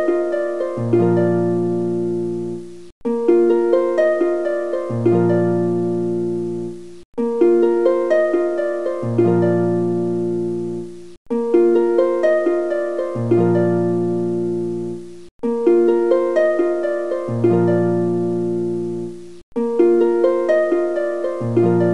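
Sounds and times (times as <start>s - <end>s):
plucked harp-like melody: 0.0s - 21.9s.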